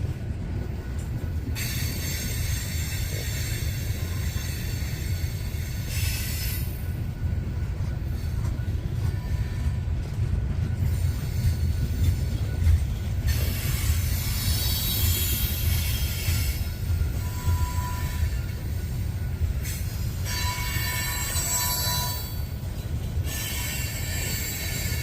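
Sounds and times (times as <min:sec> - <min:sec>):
train cars rolling rumble: 0:00.0 - 0:25.0
train wheel squeal: 0:00.6 - 0:25.0.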